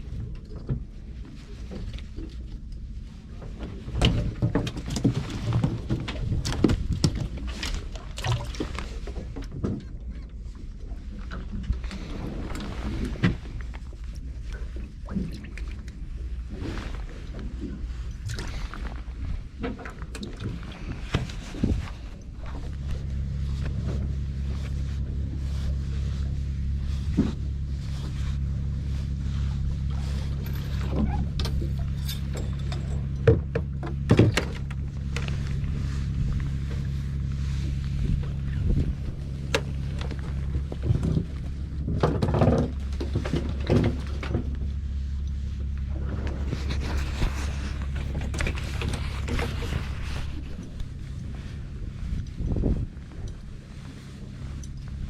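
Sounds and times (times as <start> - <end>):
boat engine humming: 0.0 - 55.0
low steady rumble: 0.0 - 55.0
water sloshing: 0.0 - 55.0.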